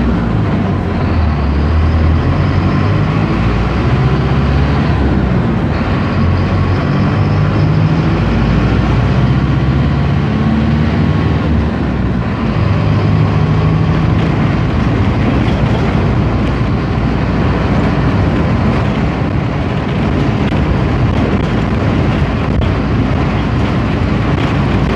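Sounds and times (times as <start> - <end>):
bus diesel engine running: 0.0 - 24.9
road noise: 0.0 - 24.9.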